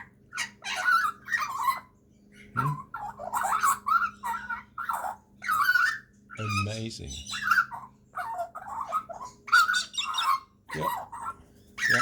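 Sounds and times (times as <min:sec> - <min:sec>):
magpie chattering calls: 0:00.0 - 0:12.0.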